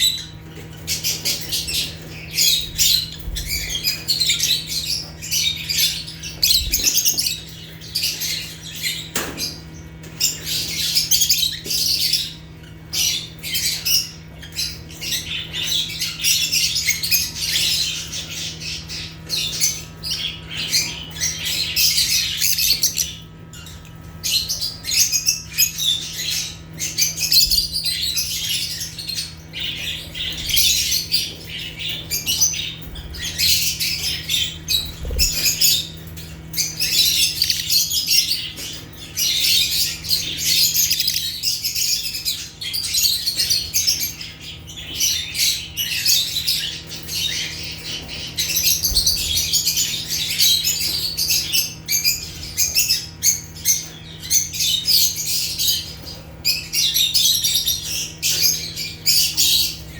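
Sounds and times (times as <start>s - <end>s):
birds chirping and squawking: 0.0s - 59.9s
steady low hum: 0.0s - 59.9s.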